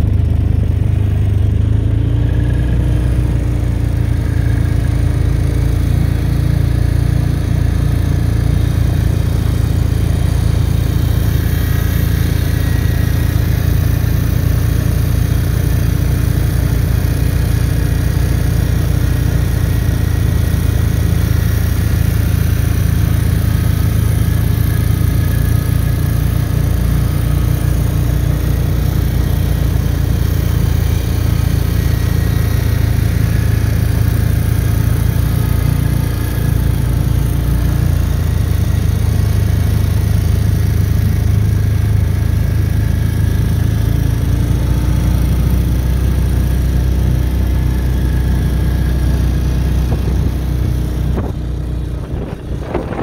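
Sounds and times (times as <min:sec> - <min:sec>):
quad bike engine running: 0:00.0 - 0:53.0.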